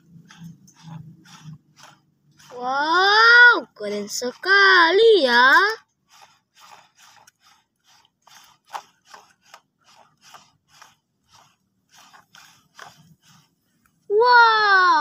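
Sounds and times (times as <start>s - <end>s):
plastic toy vehicles scraping: 0.0s - 15.0s.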